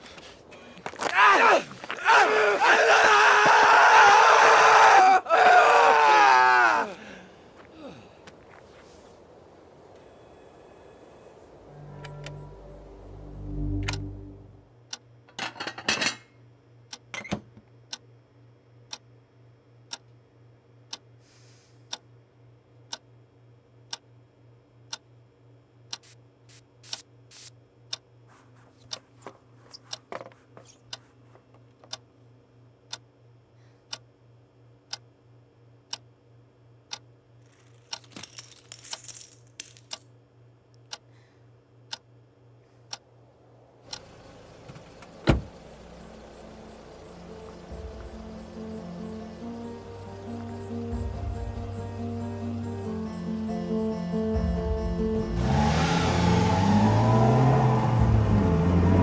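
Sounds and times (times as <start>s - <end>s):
low steady hum: 6.9s - 55.3s.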